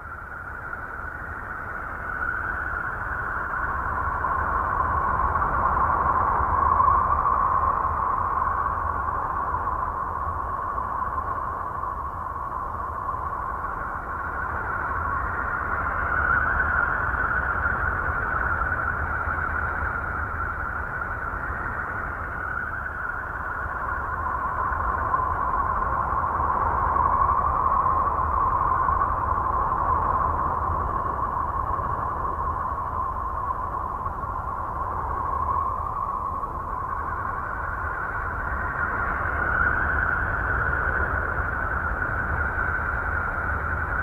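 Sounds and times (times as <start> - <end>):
eerie hissing drone: 0.0 - 44.0.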